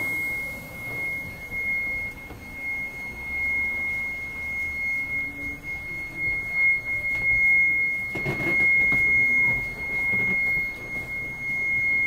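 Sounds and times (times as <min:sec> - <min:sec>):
steady high-pitched tone: 0:00.0 - 0:12.0.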